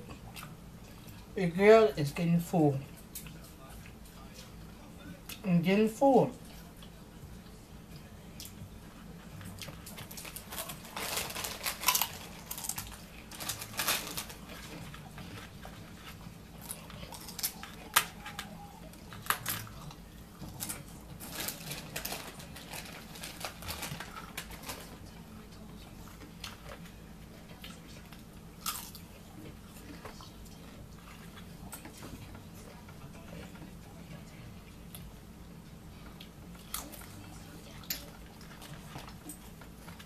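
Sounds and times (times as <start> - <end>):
faint steady hum: 0.0 - 40.0
chewing potato chips: 6.4 - 35.2, 36.0 - 40.0.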